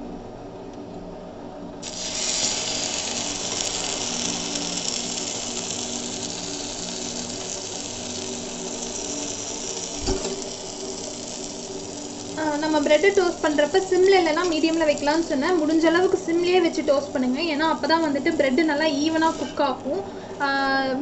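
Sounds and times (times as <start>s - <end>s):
bread sizzling in butter: 1.8s - 19.5s.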